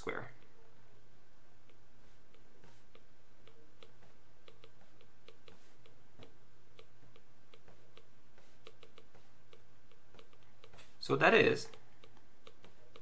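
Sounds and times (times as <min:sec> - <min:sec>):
low steady hum: 0:00.0 - 0:13.0
stylus tapping on a tablet screen: 0:01.6 - 0:13.0.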